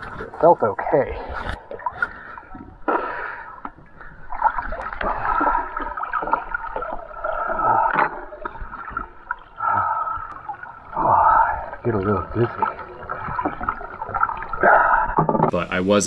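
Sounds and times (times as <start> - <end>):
water gurgling and sloshing: 0.0 - 15.7.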